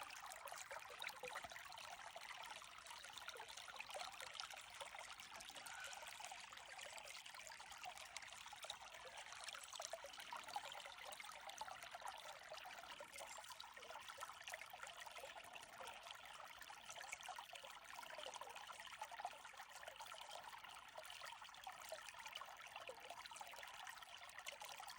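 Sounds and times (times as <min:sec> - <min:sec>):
faint trickle of running water: 0:00.0 - 0:24.9.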